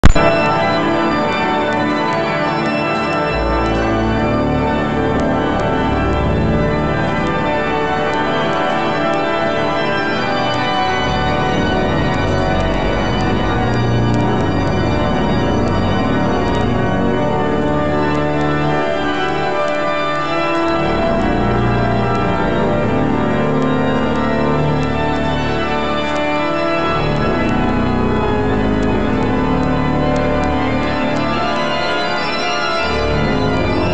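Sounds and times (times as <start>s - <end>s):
deep organ pedal bass notes: 0.0s - 33.9s
pipe organ chords: 0.0s - 33.9s.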